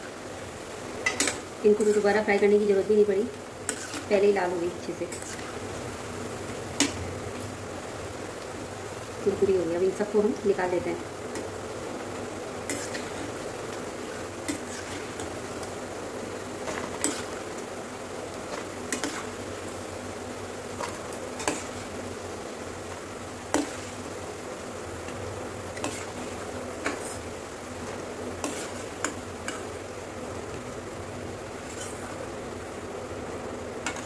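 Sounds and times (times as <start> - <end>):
oil sizzling while deep-frying: 0.0 - 34.0.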